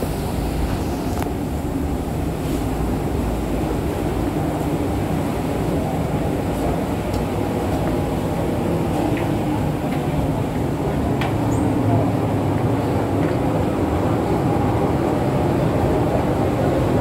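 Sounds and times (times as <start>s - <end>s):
rushing wind: 0.0s - 17.0s
sea: 0.0s - 17.0s
ship engine drone: 0.0s - 17.0s.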